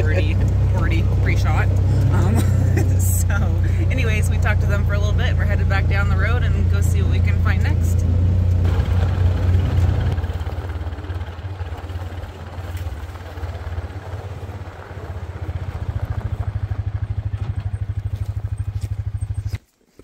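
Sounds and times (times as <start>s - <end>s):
vehicle engine idling: 0.0s - 19.6s.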